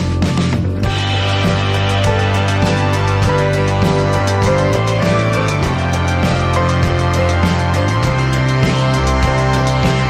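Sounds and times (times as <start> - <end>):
music with sustained tones and beat: 0.0 - 10.0.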